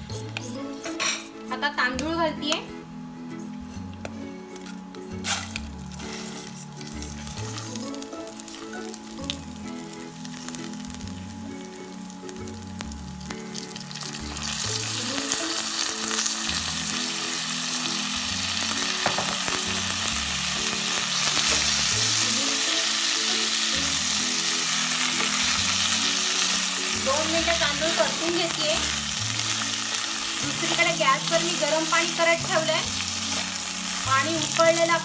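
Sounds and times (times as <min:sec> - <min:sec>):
rice sizzling in hot oil: 0:04.6 - 0:35.0.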